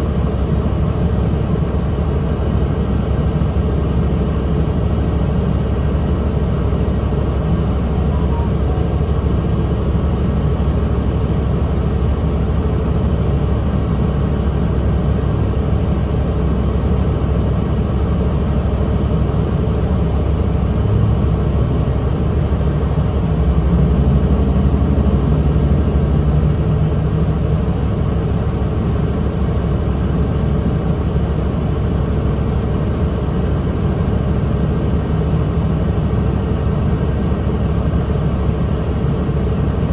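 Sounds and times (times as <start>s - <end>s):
bus diesel engine rumbling: 0.0s - 39.9s.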